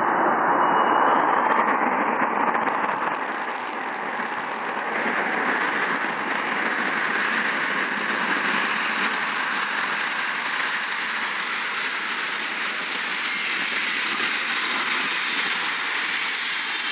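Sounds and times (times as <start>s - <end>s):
jet engine rushing: 0.0s - 16.9s.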